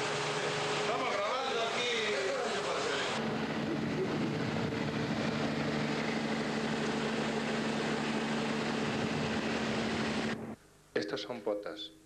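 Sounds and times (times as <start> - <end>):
boat machinery hum: 0.0 - 10.6.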